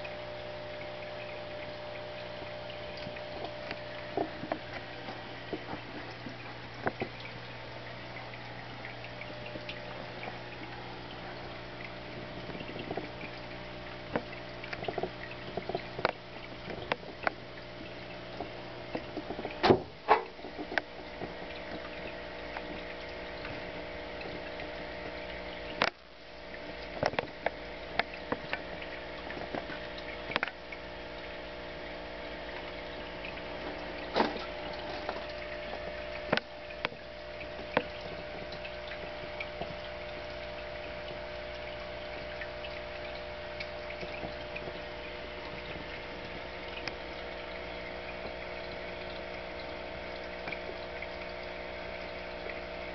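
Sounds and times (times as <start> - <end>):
aquarium pump humming: 0.0 - 52.9
water bubbling and trickling: 0.0 - 52.9.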